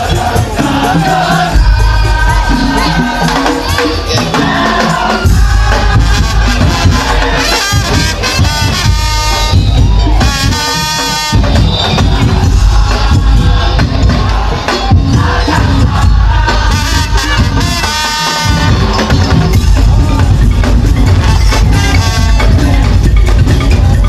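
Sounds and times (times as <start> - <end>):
booming low drums: 0.0 - 10.6, 11.3 - 24.0
percussion ensemble playing: 0.0 - 24.0.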